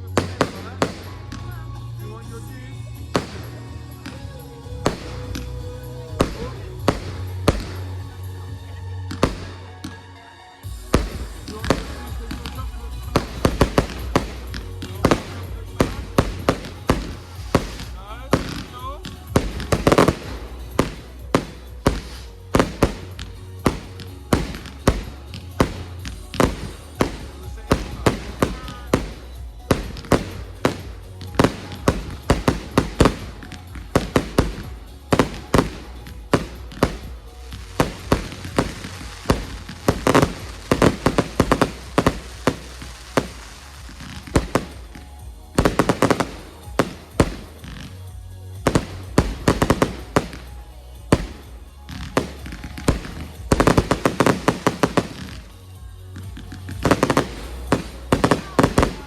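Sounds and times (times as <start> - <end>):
fireworks bangs and crackles: 0.0 - 8.2, 9.1 - 9.6, 10.6 - 59.0
music soundtrack: 0.0 - 59.0.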